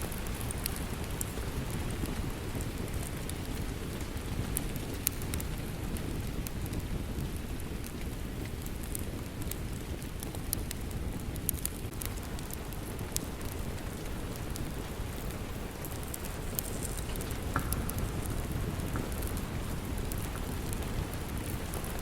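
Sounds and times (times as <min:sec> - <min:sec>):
steady rain: 0:00.0 - 0:22.0
wood fire crackling and popping: 0:00.0 - 0:22.0.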